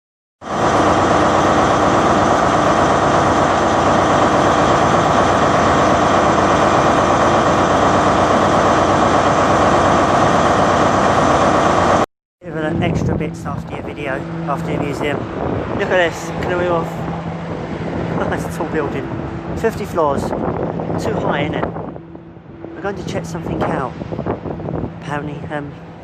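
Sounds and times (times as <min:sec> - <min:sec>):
vehicle engine running: 0:00.4 - 0:26.0.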